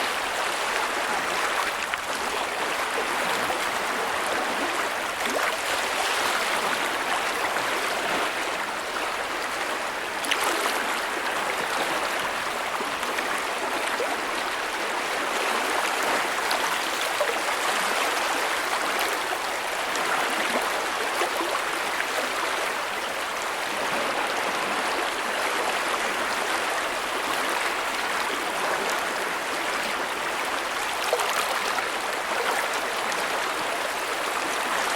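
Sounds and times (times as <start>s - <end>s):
creek rushing over rocks: 0.0s - 34.9s.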